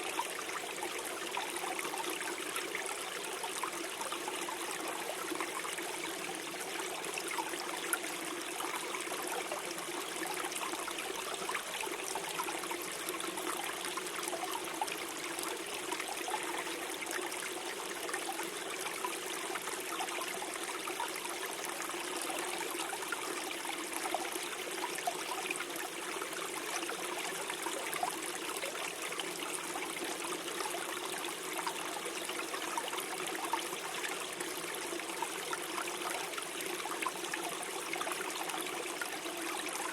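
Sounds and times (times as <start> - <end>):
stream gurgling over stones: 0.0 - 39.9.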